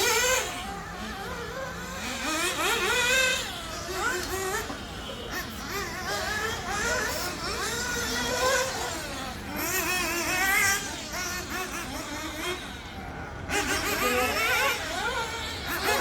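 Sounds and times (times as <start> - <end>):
small nitro engines revving: 0.0 - 16.0.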